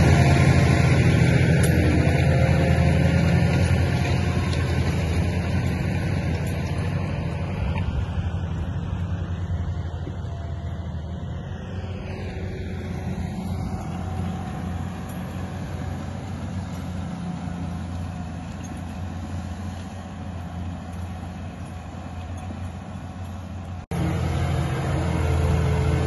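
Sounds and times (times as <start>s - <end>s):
tractor diesel engines running: 0.0s - 26.0s.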